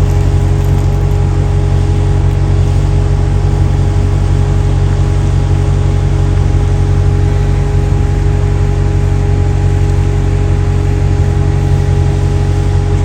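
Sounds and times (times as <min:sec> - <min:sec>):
engine and road drone in car cabin: 0:00.0 - 0:13.0.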